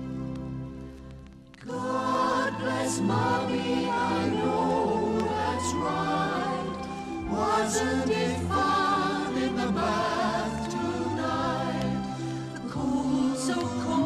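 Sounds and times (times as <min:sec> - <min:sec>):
choir singing slow song: 0:01.6 - 0:14.0.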